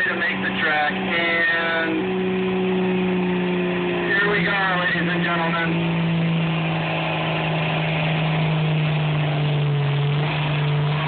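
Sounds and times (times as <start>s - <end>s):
diesel engine at high revs: 0.0s - 11.0s.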